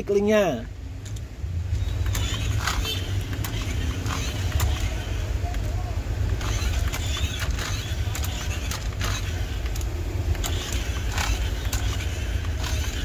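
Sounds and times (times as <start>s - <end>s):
steady low rumble: 0.6s - 13.0s
sharp knocks and clicks: 1.0s - 13.0s
toy car electric motor whirring: 1.8s - 13.0s.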